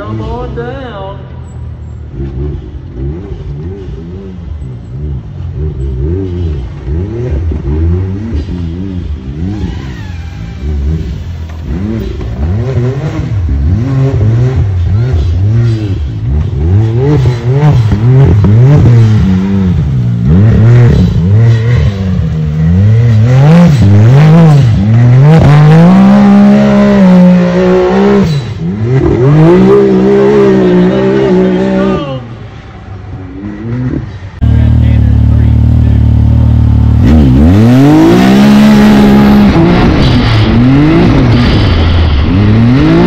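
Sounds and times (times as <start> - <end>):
utility vehicle engine revving: 0.0 - 43.0.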